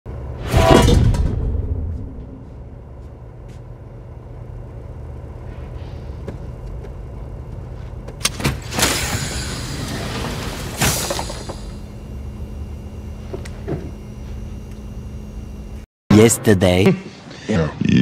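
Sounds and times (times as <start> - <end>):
low steady hum: 0.1 - 17.4.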